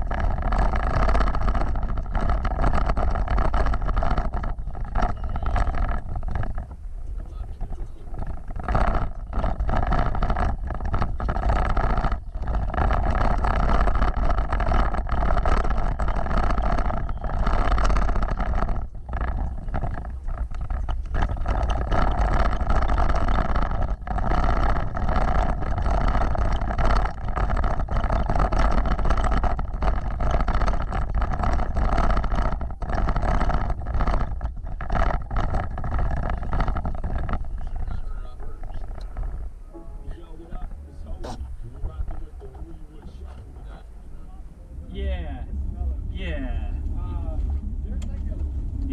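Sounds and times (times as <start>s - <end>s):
off-road vehicle engine: 0.0s - 48.9s.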